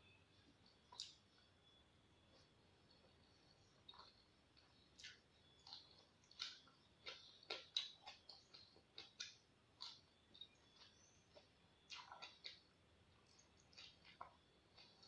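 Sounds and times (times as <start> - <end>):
raw vegetables being chewed: 0.4 - 15.0.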